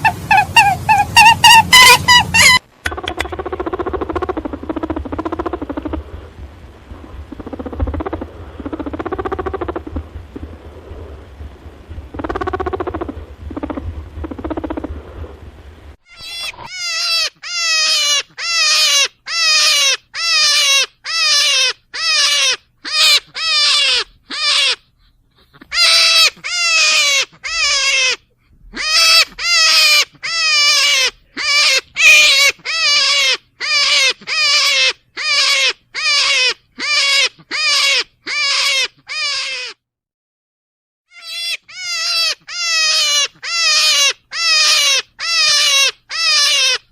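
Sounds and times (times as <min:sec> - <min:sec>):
small animal squealing: 0:00.0 - 0:06.0, 0:07.3 - 0:10.0, 0:12.2 - 0:14.9, 0:16.0 - 0:39.8, 0:41.1 - 0:46.9
softer lower animal sound: 0:00.0 - 0:39.8.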